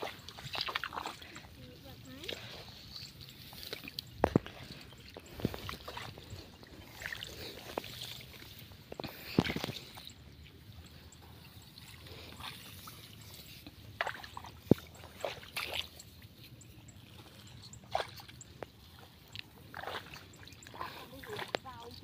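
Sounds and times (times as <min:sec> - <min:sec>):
footsteps splashing in shallow water: 0:00.0 - 0:22.0.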